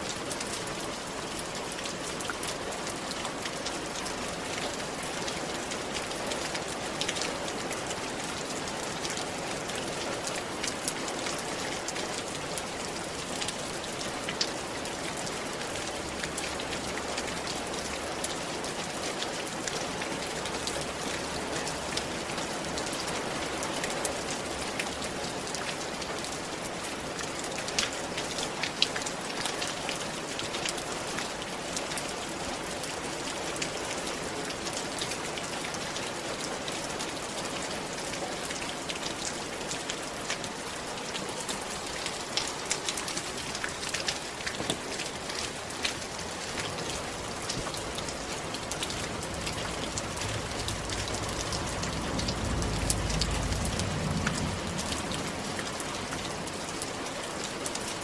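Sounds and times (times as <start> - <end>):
rain falling on a roof: 0.0 - 58.0.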